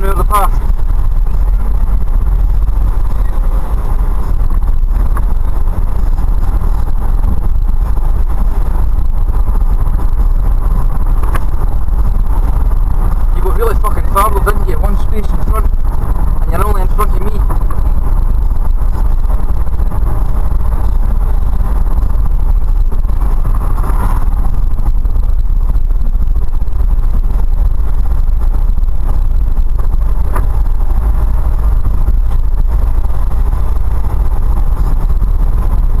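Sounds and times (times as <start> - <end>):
truck cab engine and road rumble: 0.0 - 36.0.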